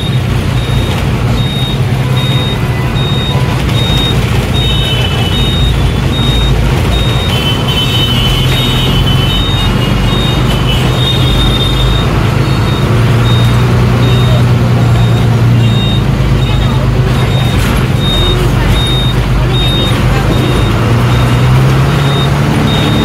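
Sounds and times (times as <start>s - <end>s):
bus diesel engine drone: 0.0s - 23.0s.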